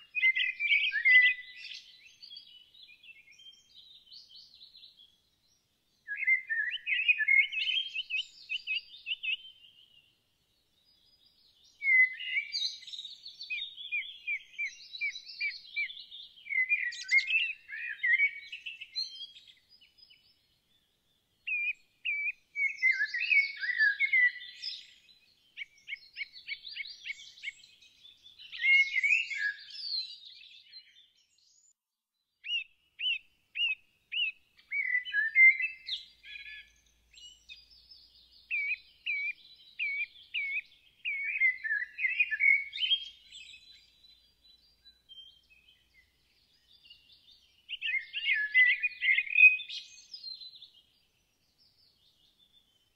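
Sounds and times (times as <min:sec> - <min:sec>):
songbird chirps and trills: 0:00.0 - 0:52.9.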